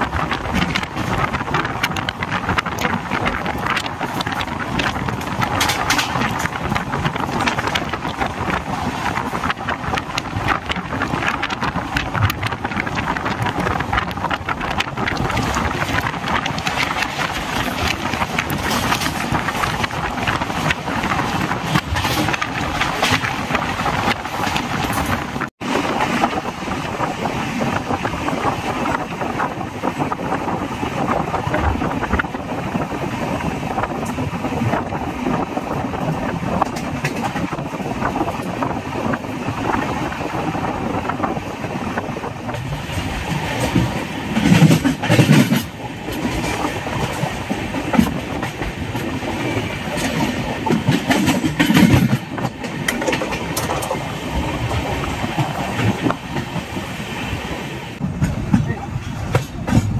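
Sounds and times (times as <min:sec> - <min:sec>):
passenger train running: 0:00.0 - 0:59.9
rattle of rail noise: 0:00.0 - 0:59.9
wind rushing over microphone: 0:00.0 - 0:59.9.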